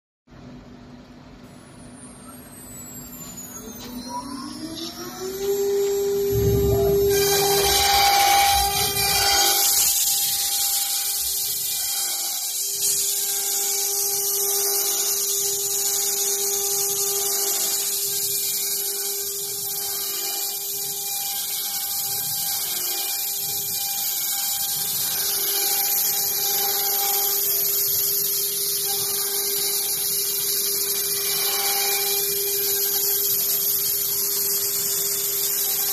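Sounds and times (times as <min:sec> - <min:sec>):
router spindle cutting foam: 0:03.1 - 0:35.9.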